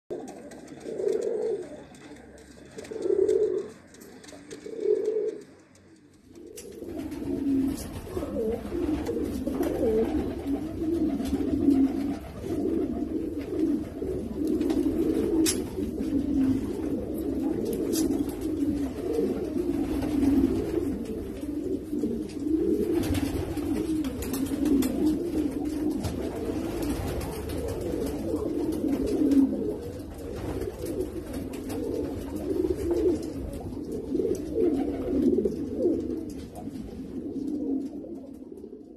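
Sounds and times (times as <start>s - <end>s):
pigeons cooing: 0.1s - 38.9s.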